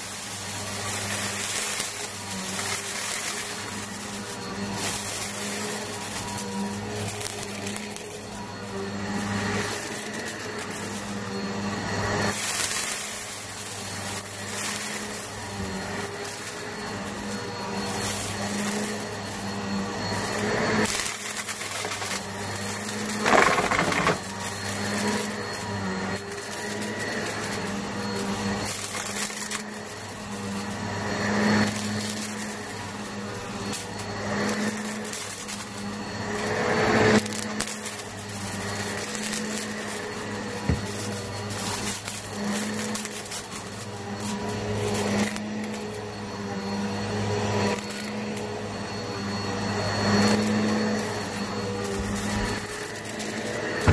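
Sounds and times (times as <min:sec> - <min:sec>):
vacuum cleaner motor humming: 0:00.0 - 0:53.9.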